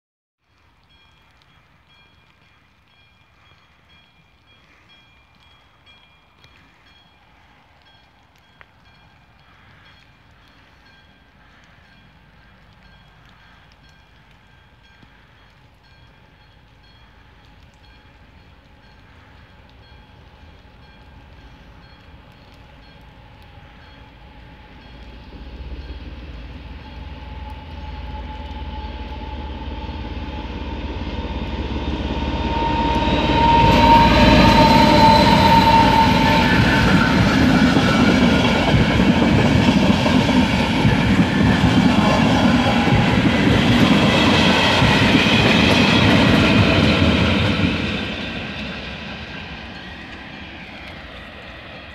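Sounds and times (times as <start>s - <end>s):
coaches rolling on rails: 0.6s - 51.9s
diesel locomotive engine: 0.8s - 51.9s.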